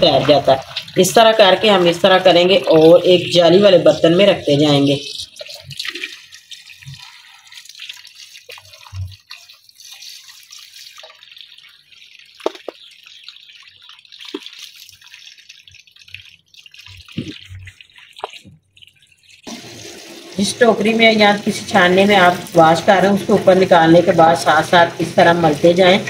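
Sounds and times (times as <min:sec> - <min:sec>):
hands squeezing wet greens: 0:00.0 - 0:26.0
water dripping and sloshing: 0:00.0 - 0:26.0.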